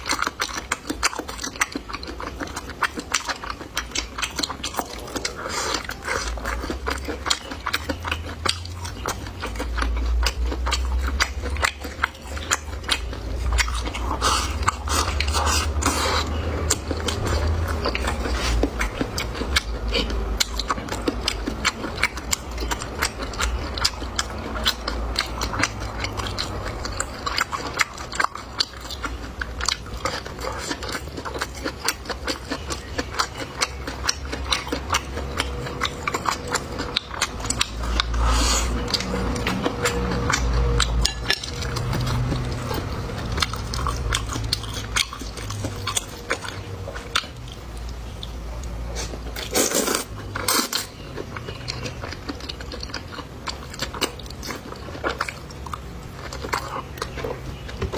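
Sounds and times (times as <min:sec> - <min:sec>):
chewing food: 0:00.0 - 0:57.9.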